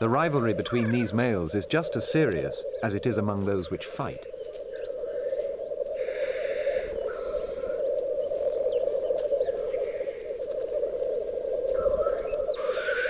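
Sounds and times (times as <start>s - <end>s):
grouse bubbling cooing: 0.0s - 13.0s
harsh hissing bird calls: 0.2s - 13.0s.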